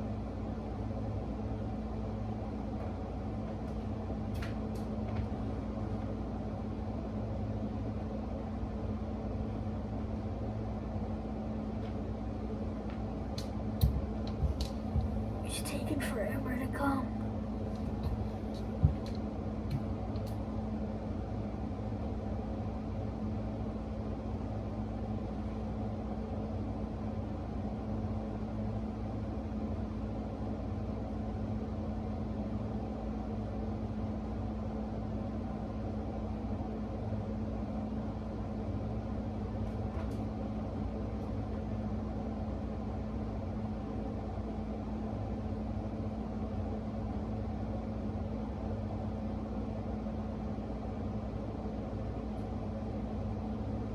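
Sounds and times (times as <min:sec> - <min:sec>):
steady machine hum: 0:00.0 - 0:53.9.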